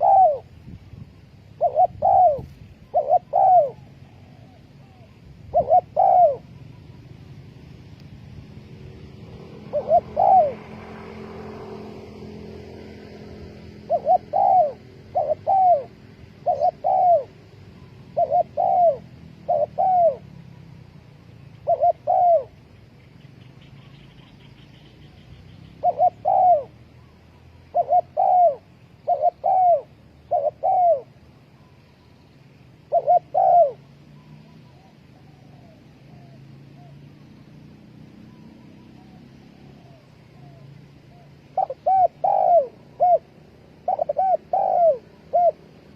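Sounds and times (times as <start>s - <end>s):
dove cooing: 0.0s - 0.6s, 1.3s - 7.4s, 8.9s - 20.7s, 21.4s - 22.8s, 23.6s - 31.7s, 32.8s - 37.4s, 38.1s - 45.9s.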